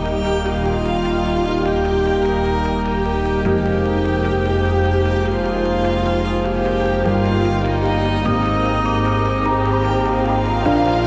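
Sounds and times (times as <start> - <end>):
slow instrumental chords: 0.0 - 11.0.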